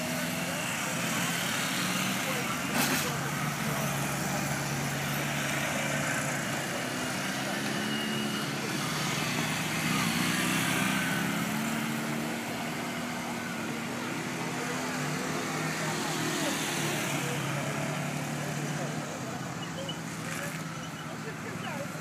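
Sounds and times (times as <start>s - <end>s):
motorcycle engines at low revs: 0.0s - 22.0s.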